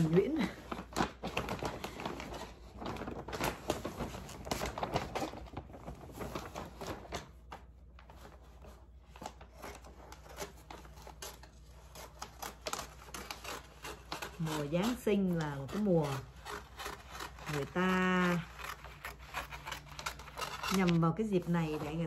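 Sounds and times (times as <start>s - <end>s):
wrapping paper rustling: 0.0s - 22.0s.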